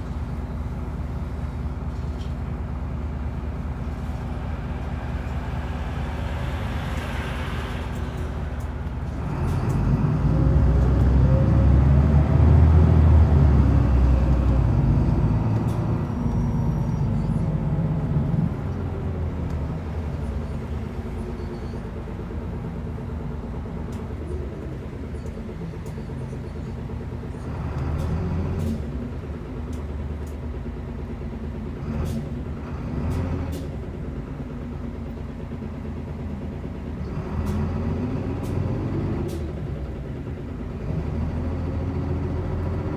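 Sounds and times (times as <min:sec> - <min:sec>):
bus diesel engine with whines: 0:00.0 - 0:42.9
road noise: 0:00.0 - 0:42.9.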